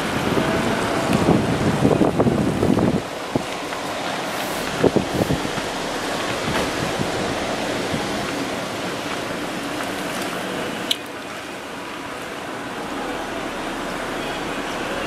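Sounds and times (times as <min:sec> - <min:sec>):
tyres hissing on wet road: 0:00.0 - 0:15.0.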